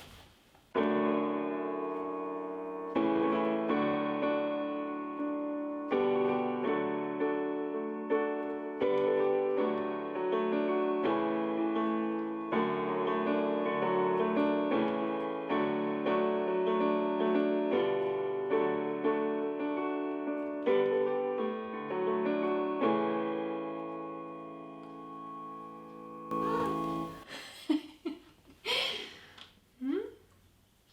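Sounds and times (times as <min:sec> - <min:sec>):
piano music: 0:00.7 - 0:27.3.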